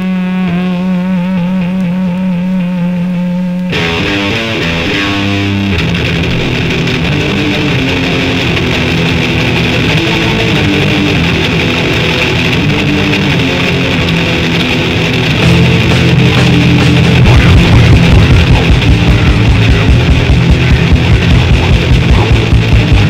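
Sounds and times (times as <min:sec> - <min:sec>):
bass guitar: 0:00.0 - 0:23.0
distorted electric guitar riff: 0:00.0 - 0:23.0.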